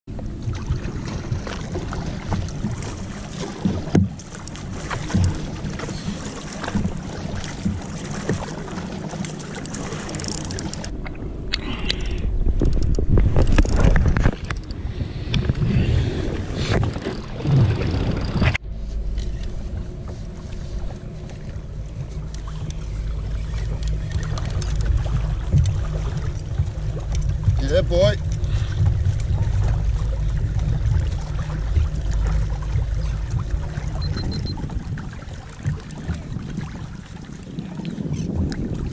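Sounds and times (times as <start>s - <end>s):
wind rumble on microphone: 0.0s - 38.9s
paddle strokes splashing: 0.1s - 38.9s
water rushing past hull: 0.1s - 38.9s.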